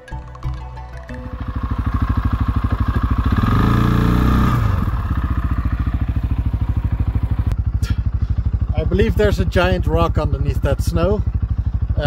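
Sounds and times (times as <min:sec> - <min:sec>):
atv engine revving: 0:01.1 - 0:12.0.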